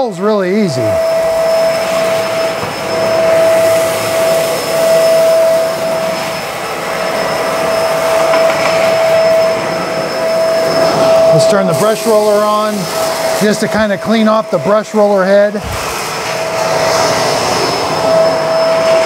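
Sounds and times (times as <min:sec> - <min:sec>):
vacuum cleaner suction and motor whine: 0:00.0 - 0:19.0.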